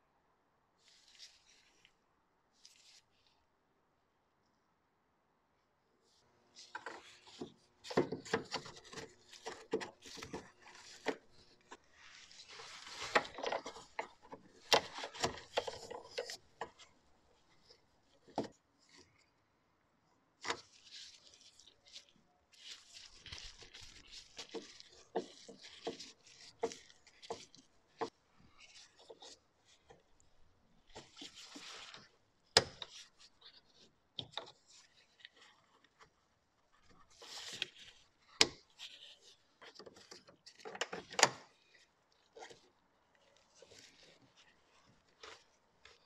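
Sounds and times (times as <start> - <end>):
rubbing and scraping: 6.5 - 19.2, 20.4 - 46.0.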